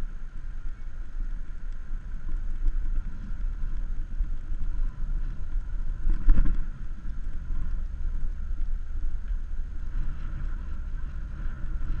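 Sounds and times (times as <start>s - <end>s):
bicycle road noise: 0.0s - 12.0s
wind rumble: 0.0s - 12.0s.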